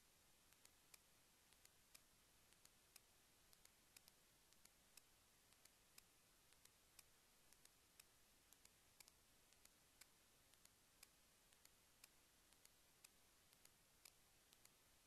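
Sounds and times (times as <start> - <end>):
faint ticking: 0.0 - 15.0.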